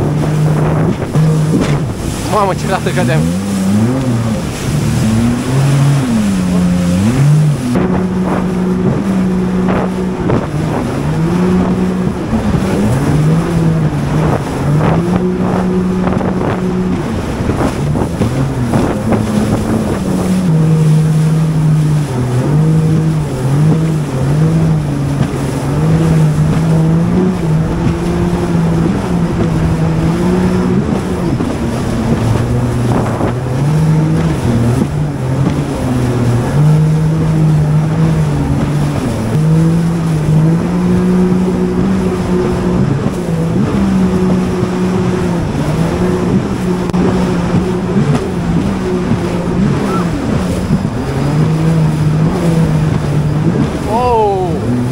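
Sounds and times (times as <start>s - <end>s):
jet ski engine running: 0.0s - 54.9s
sharp water splashes: 0.0s - 54.9s
water rushing: 0.0s - 54.9s
wind: 0.0s - 54.9s.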